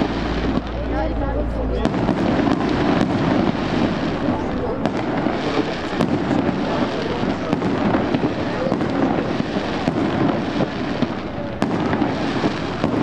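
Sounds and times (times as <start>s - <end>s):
fireworks bangs: 0.0s - 13.0s
fireworks crackling and popping: 0.0s - 13.0s.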